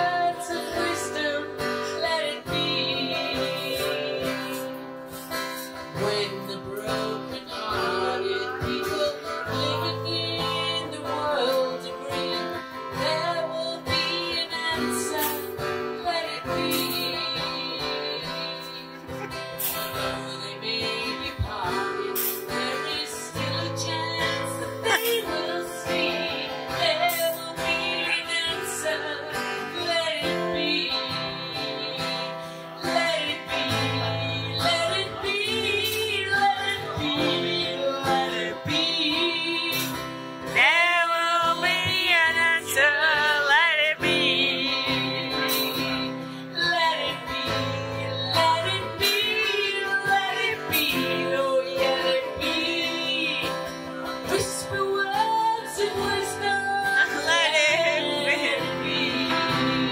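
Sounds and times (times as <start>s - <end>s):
person singing: 0.0s - 59.9s
strummed guitar: 0.0s - 59.9s.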